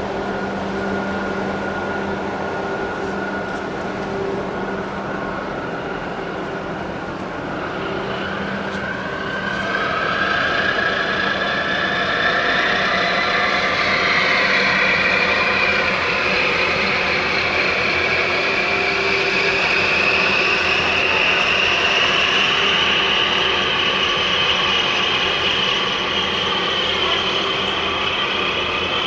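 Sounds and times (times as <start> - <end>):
engine and traffic rumble: 0.0 - 29.0
rising whine: 0.0 - 29.0.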